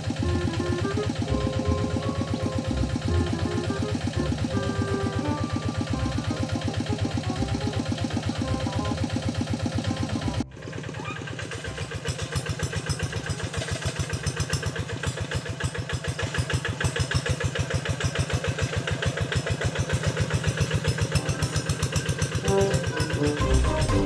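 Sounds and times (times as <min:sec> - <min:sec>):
diesel engine chugging at idle: 0:00.0 - 0:24.0.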